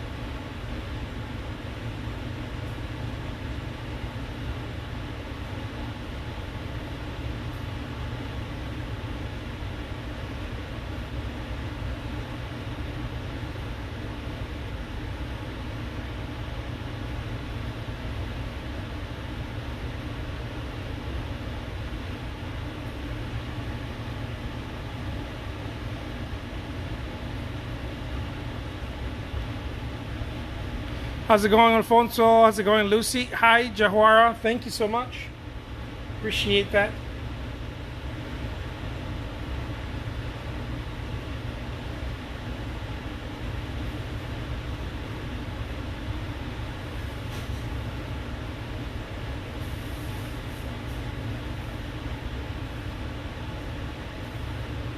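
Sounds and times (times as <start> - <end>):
room noise rumble and hiss: 0.0 - 54.9.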